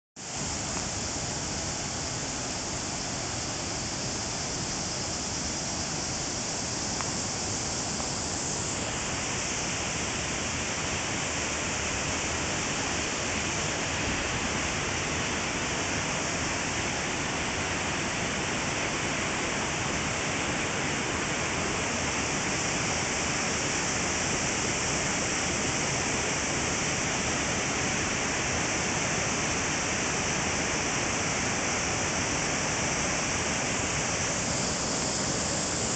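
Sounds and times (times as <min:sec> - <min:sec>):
waterfall rushing: 0:00.2 - 0:35.9.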